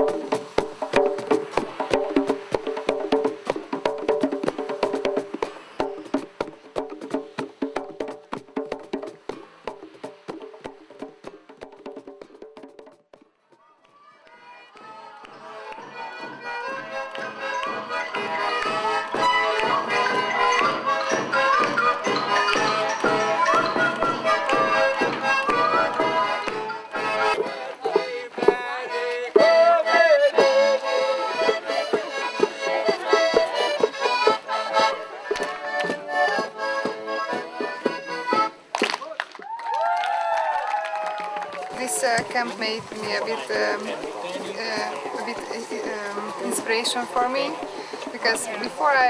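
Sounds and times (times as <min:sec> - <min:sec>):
instrumental music with percussive beat: 0:00.0 - 0:13.4, 0:15.8 - 0:39.0, 0:41.7 - 0:49.0.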